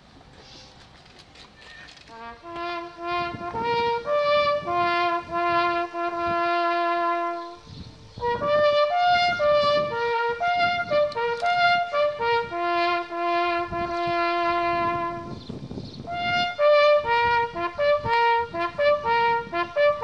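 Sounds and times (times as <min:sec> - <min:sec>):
solo trumpet slow melody: 0:02.1 - 0:20.0.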